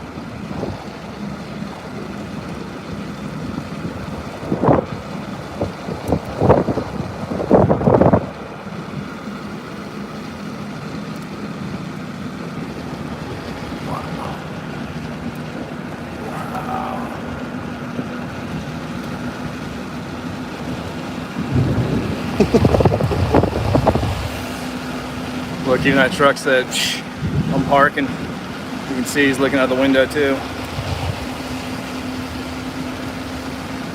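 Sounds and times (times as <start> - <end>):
low hum: 0.0 - 29.0
road and engine drone: 0.0 - 33.9.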